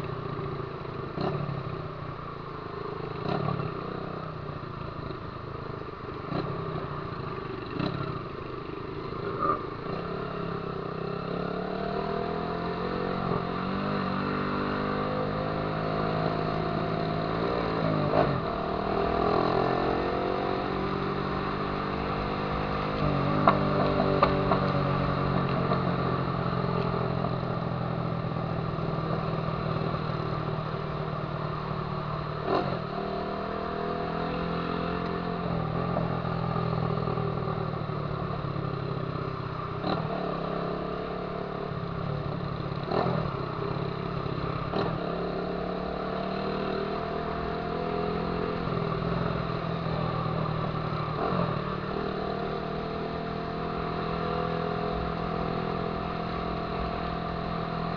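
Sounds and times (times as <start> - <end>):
motorcycle engine revving: 9.1 - 57.9.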